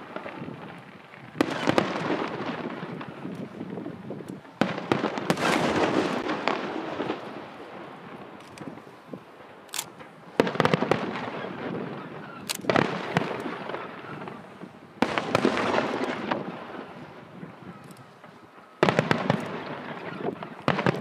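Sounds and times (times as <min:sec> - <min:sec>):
fireworks bursting with crackle: 0:00.0 - 0:21.0.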